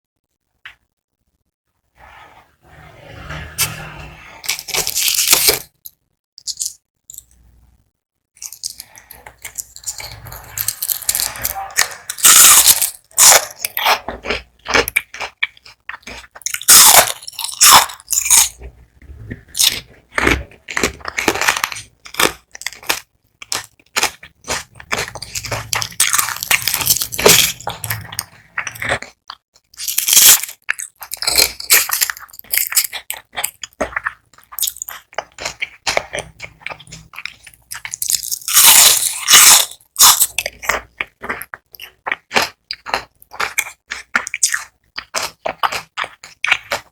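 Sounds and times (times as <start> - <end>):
crunching of fried onion rings: 4.4 - 7.6, 8.4 - 18.8, 19.4 - 46.9.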